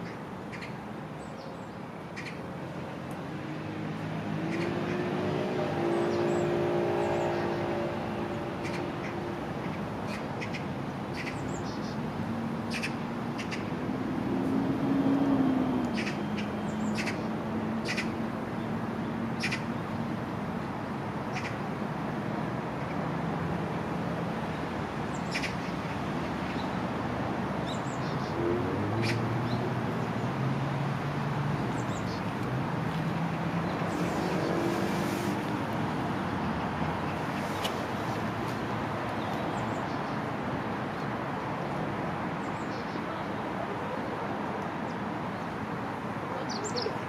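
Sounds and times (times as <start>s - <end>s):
distant road traffic hum: 0.0s - 47.0s.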